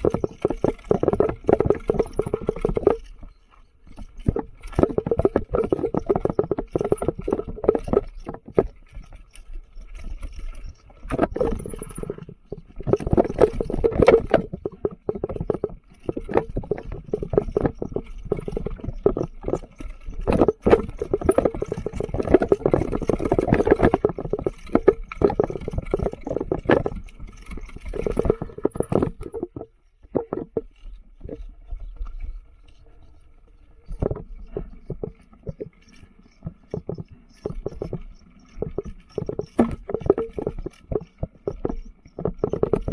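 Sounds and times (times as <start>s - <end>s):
mountain bike rattling over rocks: 0.0s - 42.9s.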